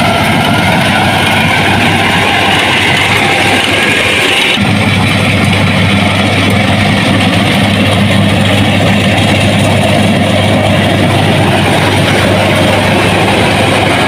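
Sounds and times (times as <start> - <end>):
combine harvester engine droning: 0.0 - 14.0.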